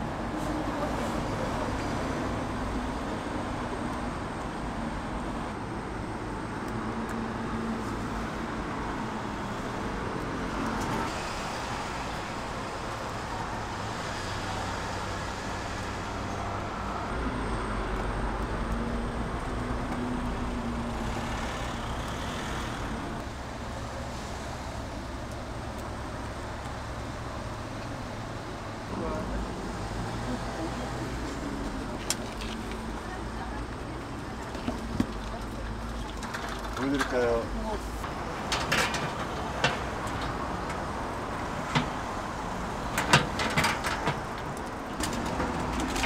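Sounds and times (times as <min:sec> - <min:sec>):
street traffic rumble: 0:00.0 - 0:46.0.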